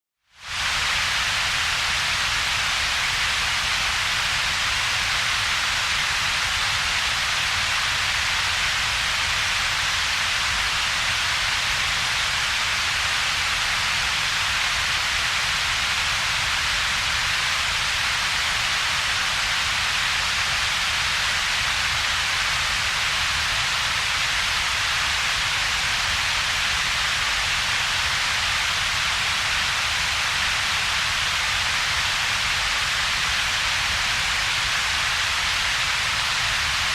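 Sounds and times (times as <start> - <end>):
synthetic noise hiss and rumble: 0.3 - 36.9.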